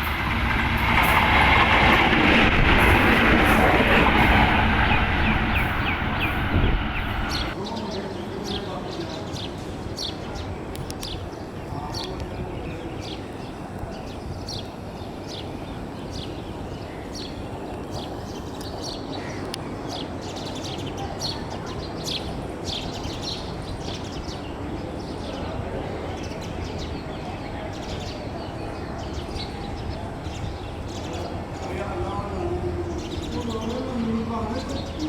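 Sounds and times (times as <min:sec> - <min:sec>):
outdoor background noise: 0:00.0 - 0:35.0
small birds chirping: 0:02.7 - 0:35.0.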